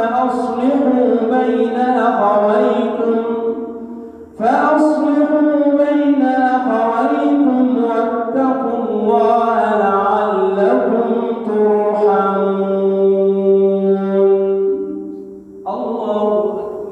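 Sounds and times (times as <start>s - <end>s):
man reciting melodically: 0.0s - 16.9s.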